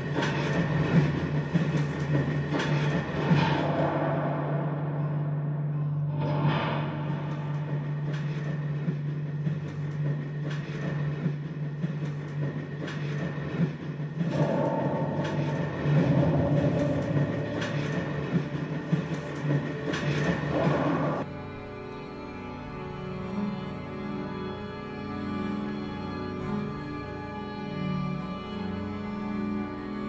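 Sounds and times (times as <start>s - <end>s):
low mechanical drone: 0.0s - 30.0s.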